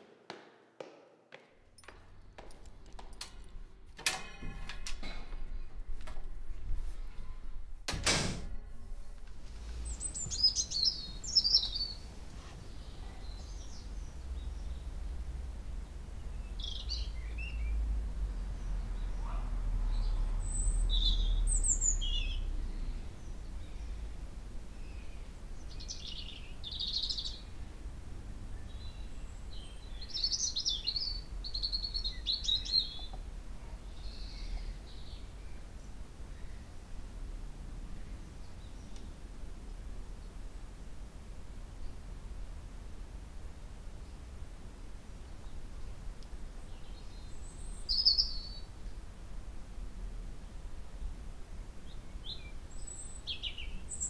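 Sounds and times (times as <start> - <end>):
low city rumble: 1.3 - 54.0
songbirds chirping: 8.6 - 54.0.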